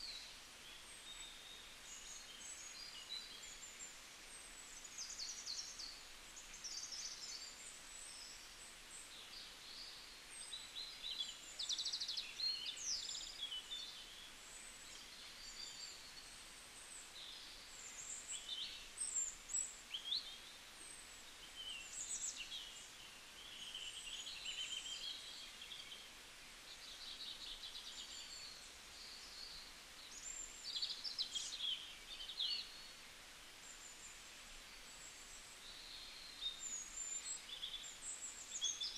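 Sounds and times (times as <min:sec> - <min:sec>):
birds chirping and twittering: 0:00.0 - 0:38.9
faint steady hiss: 0:00.0 - 0:38.9.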